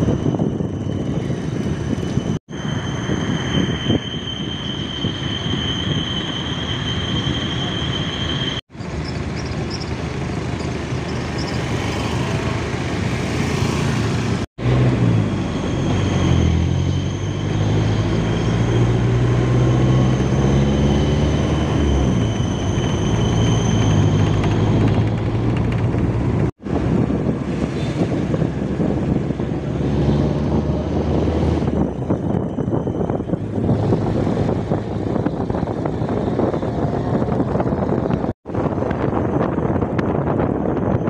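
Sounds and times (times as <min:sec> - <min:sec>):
road noise: 0:00.0 - 0:41.0
vehicle engine drone: 0:00.0 - 0:41.0.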